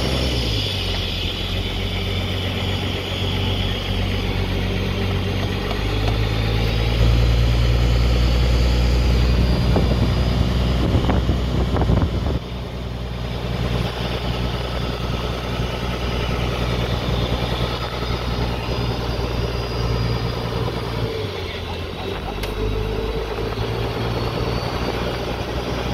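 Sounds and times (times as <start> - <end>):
boat engine humming: 0.0 - 25.9.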